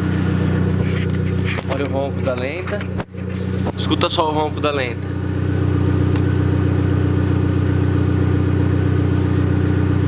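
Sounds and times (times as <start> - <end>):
car engine idling deep exhaust: 0.0 - 10.0.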